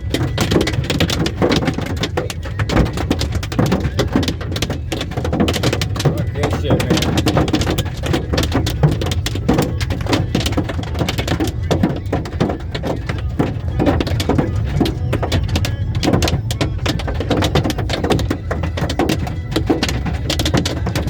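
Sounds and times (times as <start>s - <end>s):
hail clattering: 0.0s - 21.0s.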